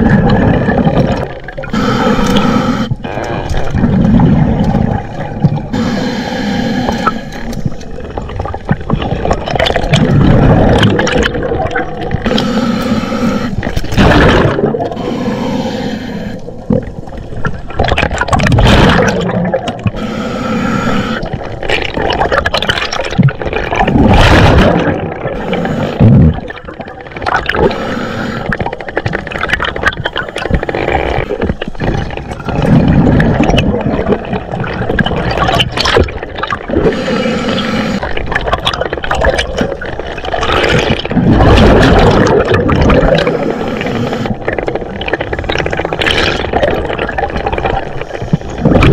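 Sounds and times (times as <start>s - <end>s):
scuba regulator bubbles gurgling: 0.0s - 48.9s.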